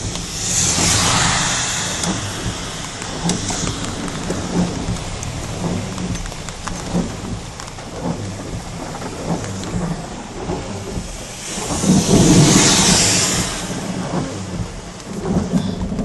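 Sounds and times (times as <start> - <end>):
heavy rain: 0.0 - 16.0
low rumble: 0.0 - 16.0.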